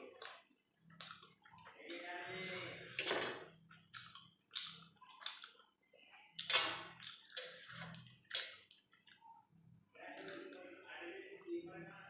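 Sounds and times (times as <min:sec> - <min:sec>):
open-mouthed chewing and lip-smacking: 0:00.0 - 0:12.0.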